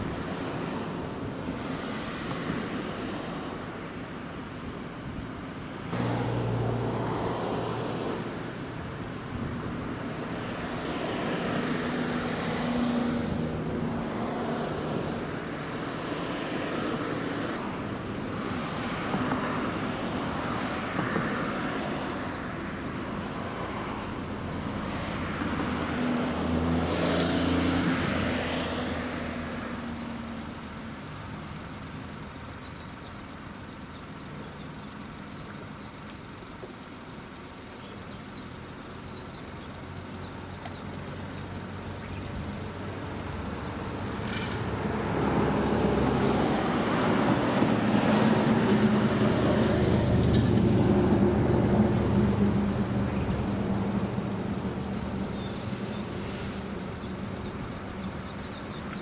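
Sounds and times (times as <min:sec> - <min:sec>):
low engine hum: 0:00.0 - 0:59.0
vehicles passing close by: 0:00.0 - 0:59.0.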